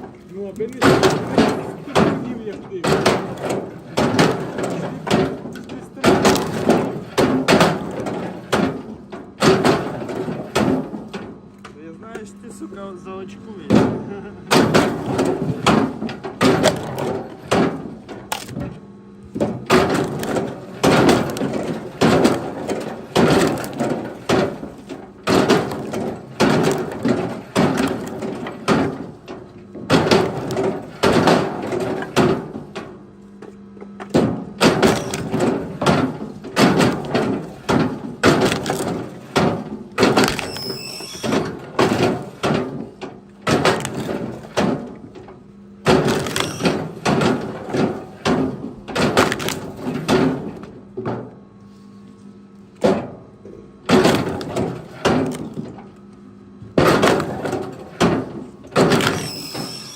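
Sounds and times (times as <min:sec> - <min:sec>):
firewood logs knocking: 0:00.0 - 0:12.3, 0:13.6 - 0:33.0, 0:34.0 - 0:51.4, 0:53.9 - 0:55.8, 0:56.7 - 0:59.9
steady low hum: 0:00.0 - 0:59.9.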